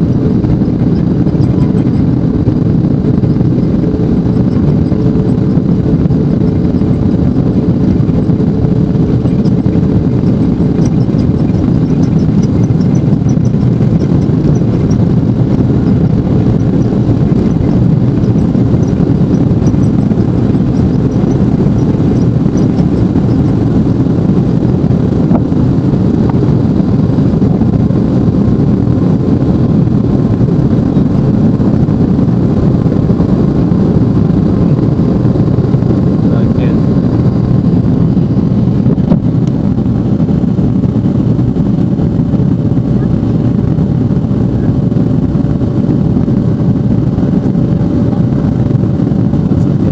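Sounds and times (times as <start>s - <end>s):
jet engines rumbling: 0.0s - 49.9s.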